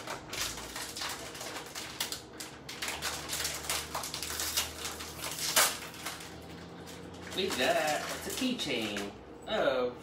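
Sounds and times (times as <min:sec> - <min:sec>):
plastic ripping: 0:00.0 - 0:09.1
plastic packaging crinkling: 0:00.0 - 0:09.2.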